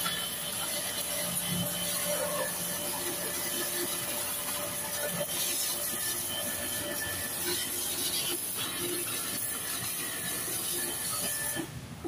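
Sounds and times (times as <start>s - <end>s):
pressure washer spraying: 0.0s - 11.7s.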